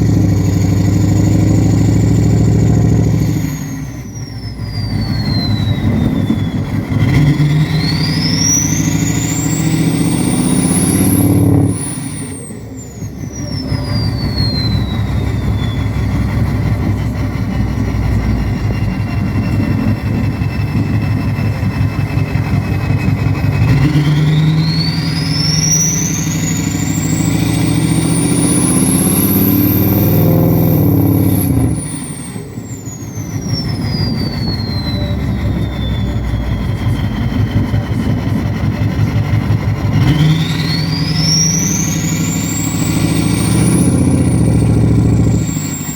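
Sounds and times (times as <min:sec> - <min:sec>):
turbo whistle: 0:00.0 - 0:17.1, 0:18.0 - 0:45.9
diesel engine idling and revving: 0:00.0 - 0:45.9.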